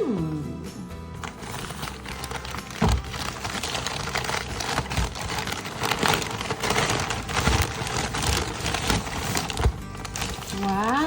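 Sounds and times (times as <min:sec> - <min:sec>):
paper crinkling and rustling: 0:01.2 - 0:11.0.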